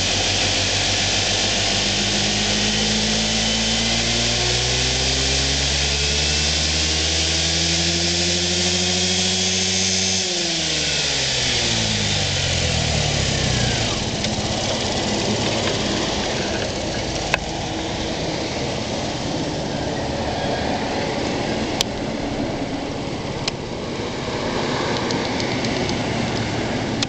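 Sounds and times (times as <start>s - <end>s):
scooter engine revving: 0.0s - 27.0s.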